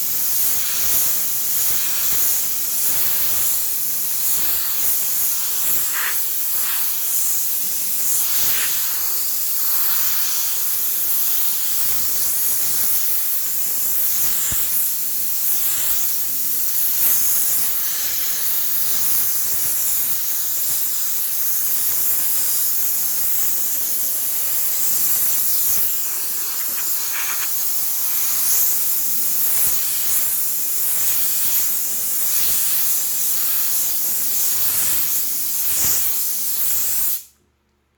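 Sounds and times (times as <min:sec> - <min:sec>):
steam cleaner hissing: 0:00.0 - 0:37.2.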